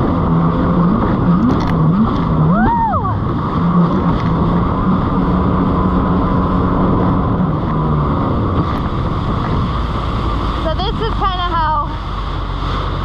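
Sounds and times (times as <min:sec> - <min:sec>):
jet ski engine running: 0:00.0 - 0:13.0
rushing water: 0:00.0 - 0:13.0
wind on microphone: 0:00.0 - 0:13.0.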